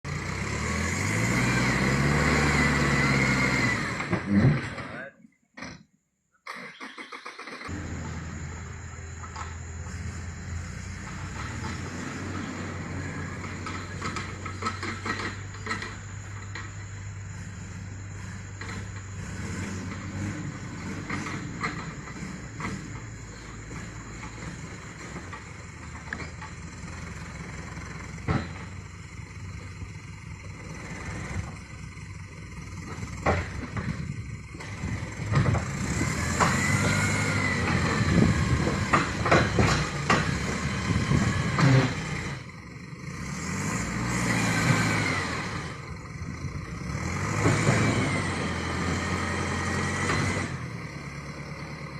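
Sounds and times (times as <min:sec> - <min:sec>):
vehicle engine running: 0:07.6 - 0:51.9.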